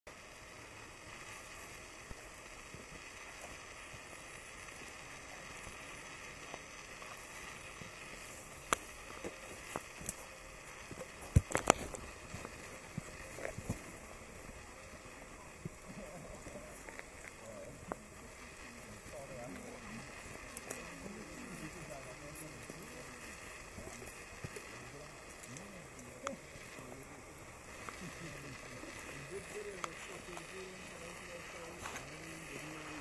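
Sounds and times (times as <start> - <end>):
forest ambience hiss: 0.1 - 33.0.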